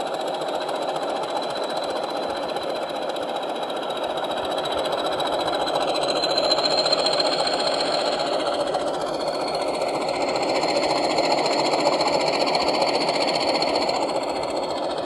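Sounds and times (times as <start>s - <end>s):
diesel engine sound from speaker: 0.0s - 15.0s.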